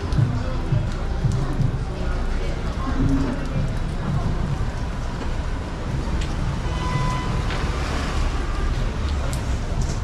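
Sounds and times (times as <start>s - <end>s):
passing traffic rumble: 0.0s - 10.0s
street noise: 0.0s - 10.0s.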